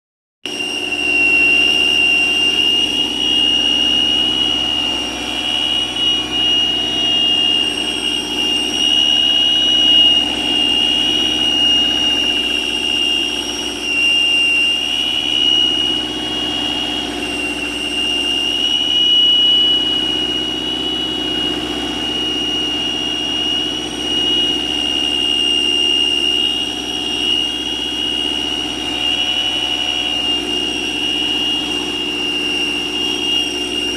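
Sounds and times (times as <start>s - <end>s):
bearing whistling: 0.4s - 33.9s
engine running: 0.4s - 33.9s.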